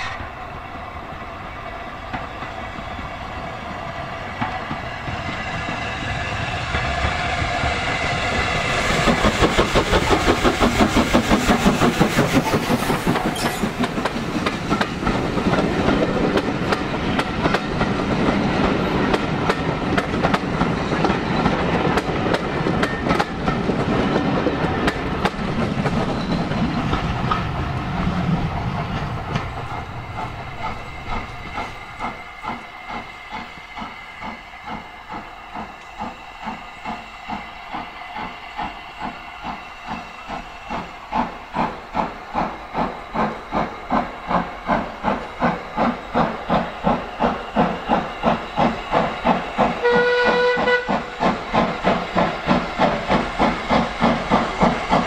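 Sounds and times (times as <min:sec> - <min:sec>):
train wheels clicking over rail joints: 0:03.6 - 0:55.0
steam engine exhaust beats: 0:04.3 - 0:55.0.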